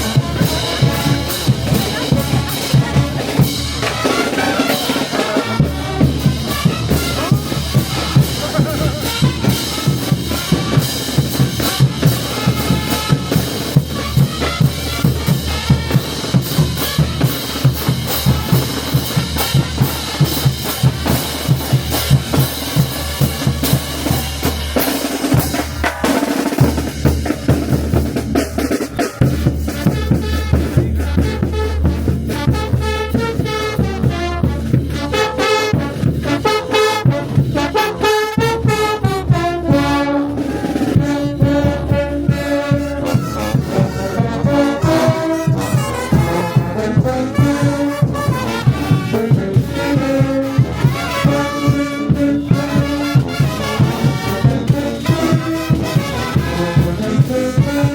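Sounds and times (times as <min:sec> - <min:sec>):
brass band playing lively tune: 0:00.0 - 0:57.9
drums beating: 0:00.0 - 0:57.9.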